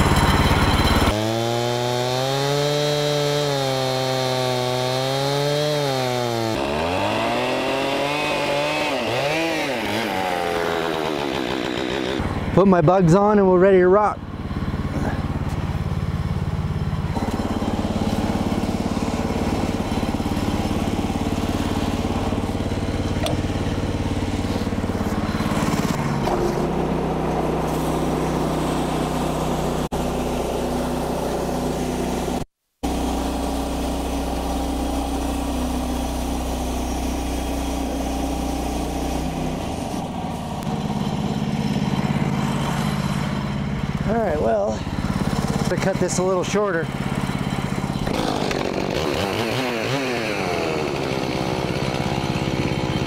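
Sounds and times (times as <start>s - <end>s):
sawmill engine running: 0.0s - 53.0s.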